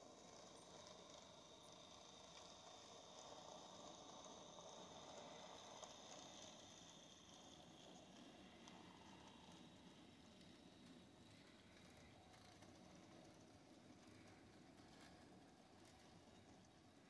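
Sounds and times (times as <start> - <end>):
model train cars rolling on track: 0.0 - 17.0.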